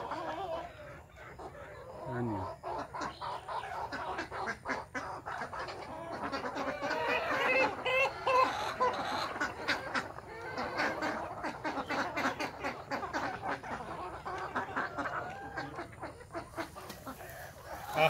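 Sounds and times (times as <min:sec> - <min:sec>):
ducks quacking: 0:00.0 - 0:18.0
hens clucking: 0:00.0 - 0:18.0.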